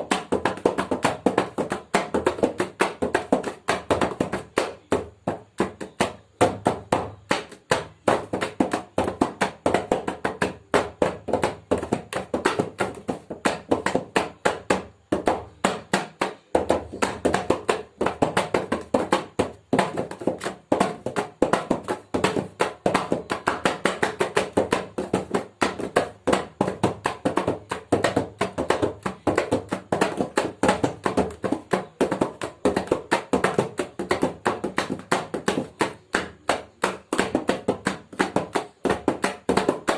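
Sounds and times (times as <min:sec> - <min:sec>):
hand drum beats: 0:00.0 - 0:39.9.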